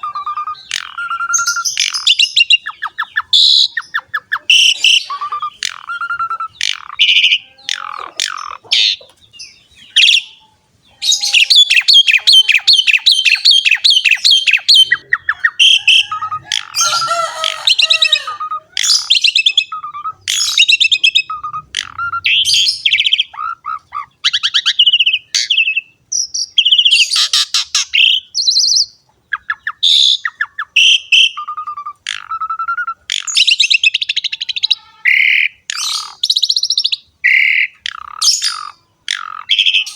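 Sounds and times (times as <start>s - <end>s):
starling singing whistles and chatters: 0.0s - 39.9s.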